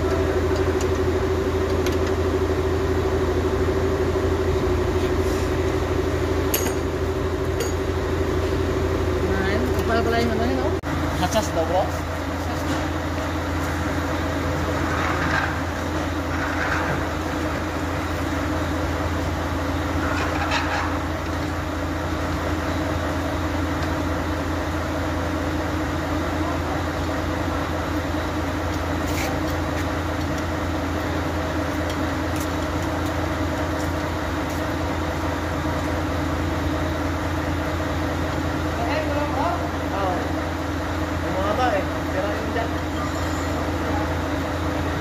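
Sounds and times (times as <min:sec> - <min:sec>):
low mechanical drone: 0:00.0 - 0:45.0.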